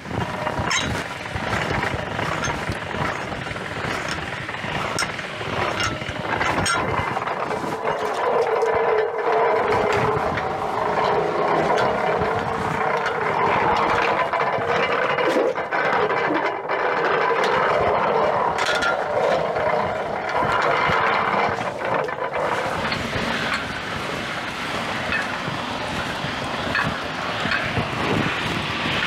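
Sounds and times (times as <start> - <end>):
hand-cranked roller mill turning: 0.0 - 29.0.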